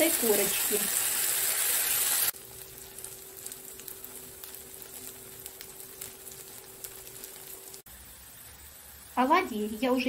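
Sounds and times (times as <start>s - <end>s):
fritters sizzling in hot oil: 0.0s - 10.0s.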